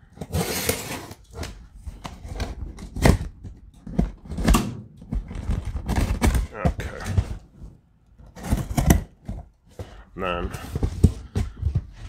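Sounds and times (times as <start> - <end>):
cardboard scraping and rustling: 0.1 - 12.0.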